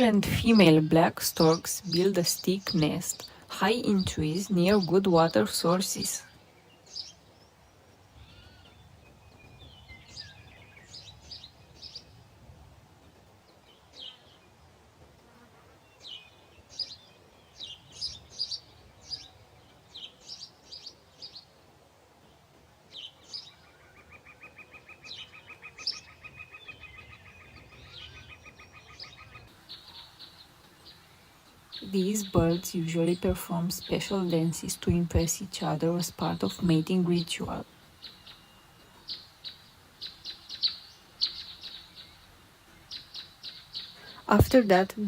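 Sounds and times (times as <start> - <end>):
small birds chirping: 0.0 - 12.4, 13.1 - 21.6, 22.2 - 45.0.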